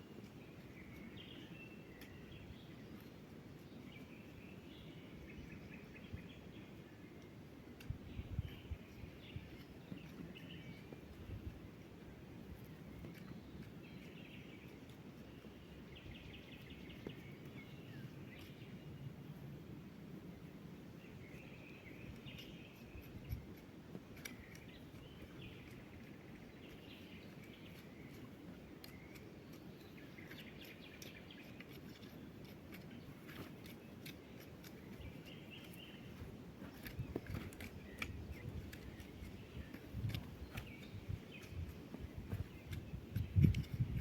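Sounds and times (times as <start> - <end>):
birds chirping: 0.2 - 11.4, 12.4 - 19.1, 21.0 - 44.0.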